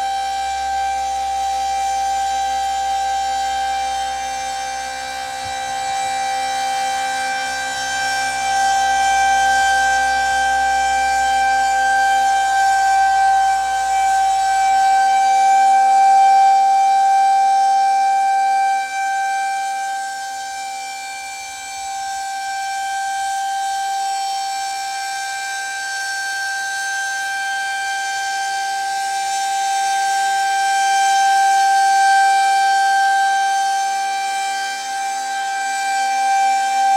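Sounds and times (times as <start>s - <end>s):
siren steady wailing tone: 0.0s - 36.9s.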